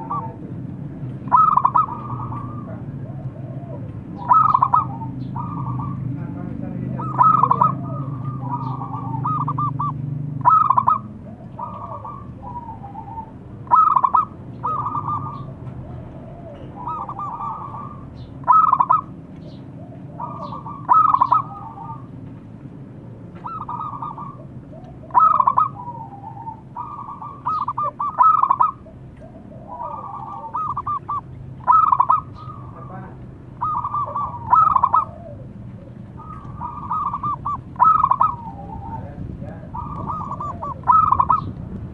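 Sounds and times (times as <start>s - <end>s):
dove cooing with rapid trill: 0.0s - 0.5s, 1.2s - 22.2s, 23.3s - 41.6s.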